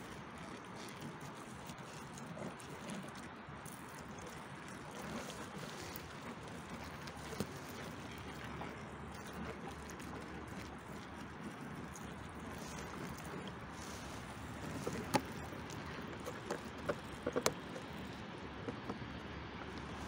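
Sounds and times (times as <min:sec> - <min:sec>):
water stream splashing: 0:00.0 - 0:20.0.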